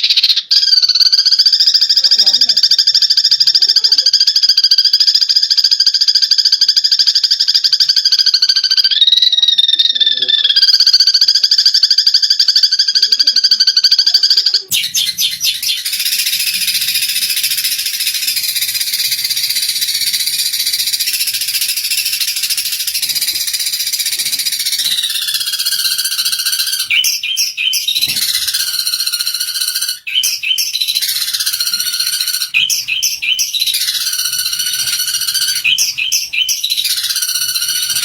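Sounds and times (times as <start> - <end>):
sparrows buzzy trill: 0.0 - 38.0
sparrows high-pitched chattering: 0.0 - 38.0.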